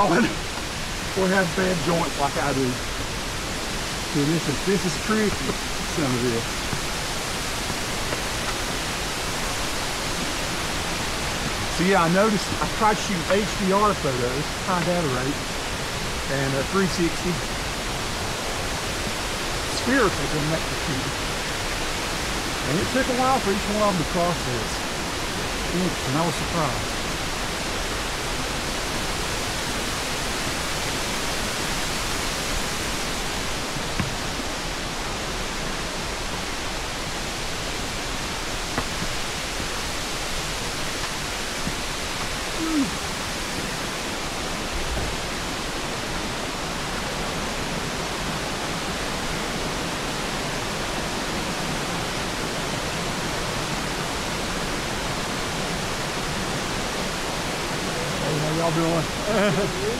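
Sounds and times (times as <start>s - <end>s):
creek water running over rocks: 0.0s - 59.9s.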